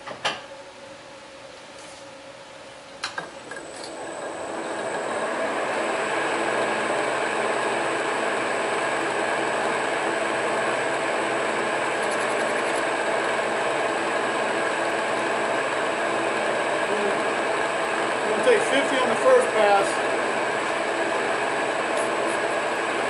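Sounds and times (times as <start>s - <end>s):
lathe hum and whir: 0.6s - 23.0s.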